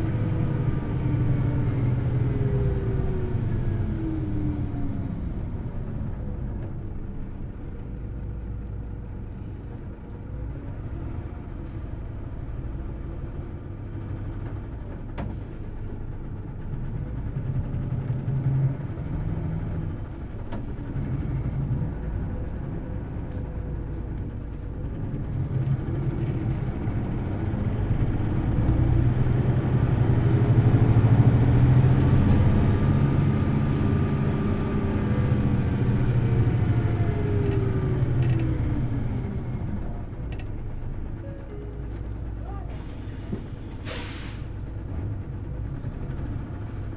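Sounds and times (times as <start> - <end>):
bus engine humming: 0.0 - 46.9.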